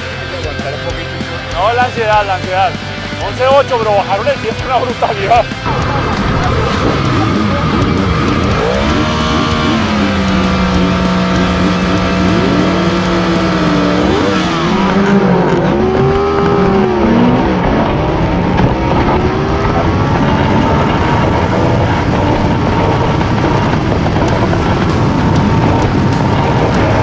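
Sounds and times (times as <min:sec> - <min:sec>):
motorcycle engines at full throttle: 0:00.0 - 0:27.0.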